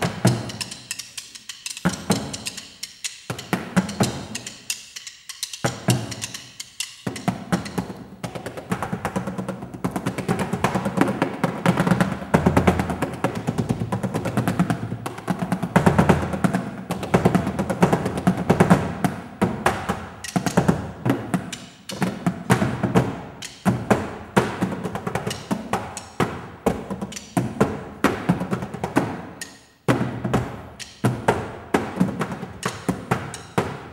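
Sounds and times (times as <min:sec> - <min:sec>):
fast percussion music: 0:00.0 - 0:33.9.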